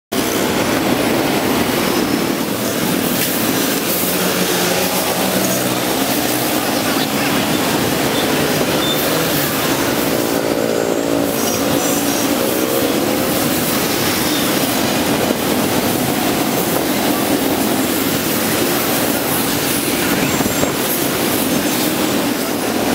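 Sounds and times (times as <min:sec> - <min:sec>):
scooter and motorbike traffic: 0:00.1 - 0:22.9
motorbike passing close: 0:00.2 - 0:22.9.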